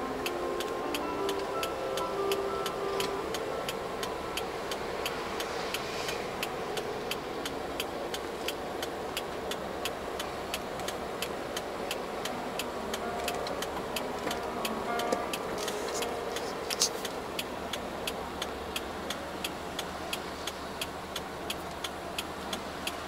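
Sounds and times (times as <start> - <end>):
car engine and tyres on wet road: 0.0 - 23.0
steady ticking: 0.0 - 23.0.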